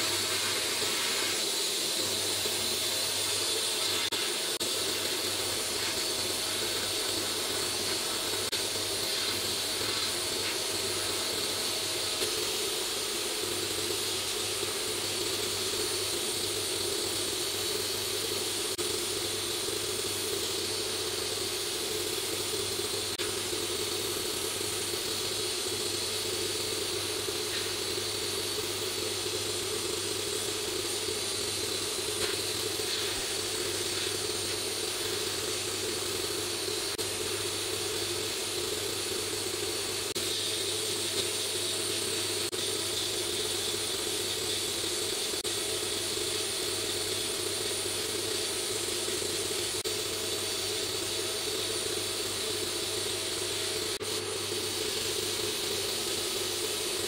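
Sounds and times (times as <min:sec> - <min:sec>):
sandblast gun hissing: 0:00.0 - 0:57.0.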